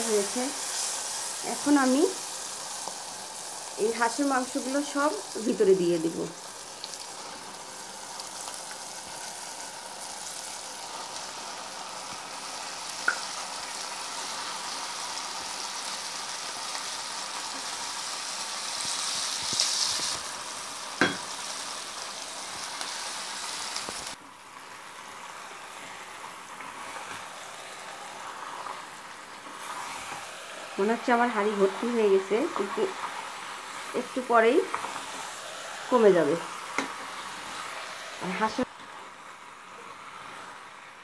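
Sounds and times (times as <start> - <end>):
masala sizzling in oil: 0.0 - 41.0.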